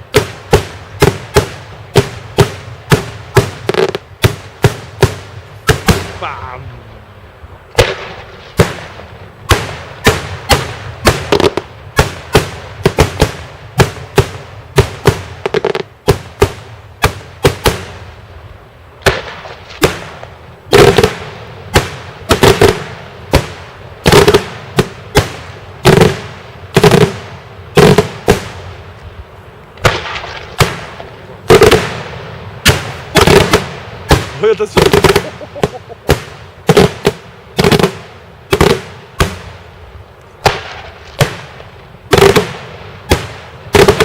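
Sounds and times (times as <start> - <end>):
fireworks bangs: 0.0 - 6.9, 7.7 - 44.0.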